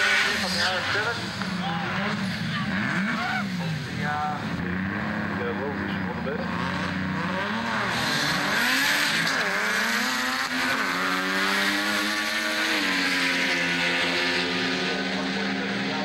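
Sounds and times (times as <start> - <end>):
cars accelerating hard: 0.0 - 16.0.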